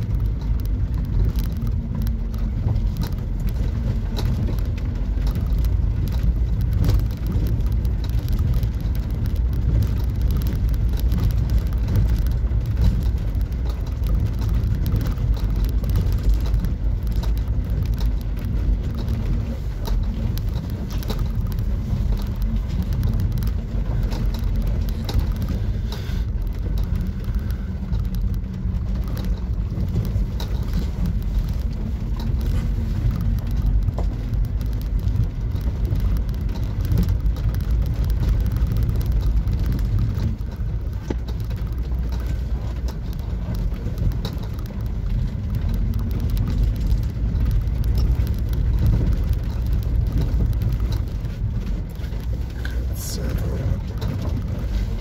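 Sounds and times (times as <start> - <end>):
stones clicking under wheels: 0.0 - 55.0
van engine and tyres rumbling: 0.0 - 55.0.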